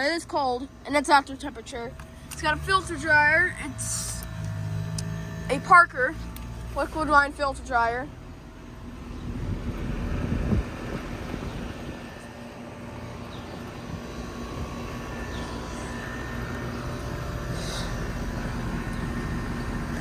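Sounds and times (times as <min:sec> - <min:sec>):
air conditioner fan drone: 0:00.0 - 0:20.0
muffled compressor hum: 0:00.0 - 0:20.0.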